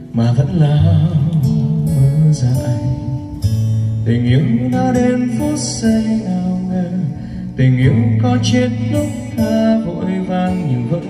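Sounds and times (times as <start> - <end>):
guitar: 0.0 - 11.0.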